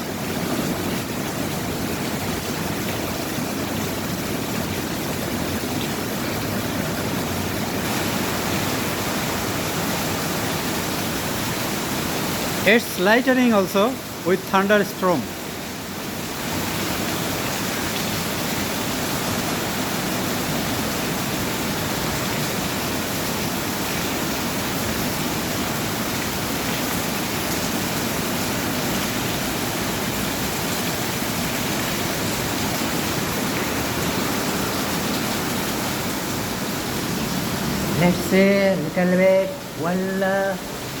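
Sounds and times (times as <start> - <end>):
heavy rain downpour: 0.0 - 41.0.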